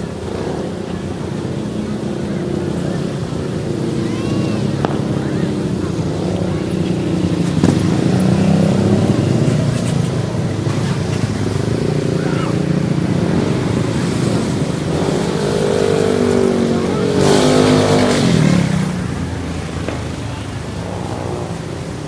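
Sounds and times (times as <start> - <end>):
engine passing by: 0.0 - 22.0
motor engines running: 0.0 - 22.0.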